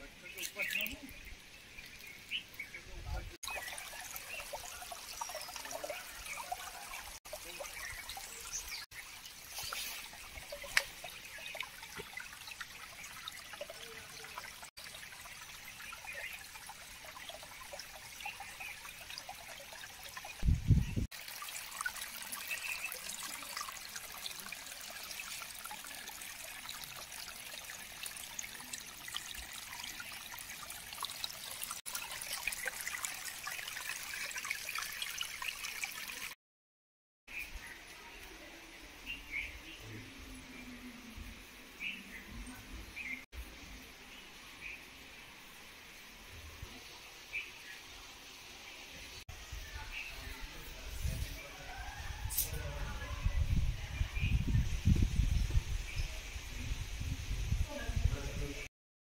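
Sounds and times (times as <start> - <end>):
stream trickling over rocks: 0.0 - 36.4, 37.3 - 58.6.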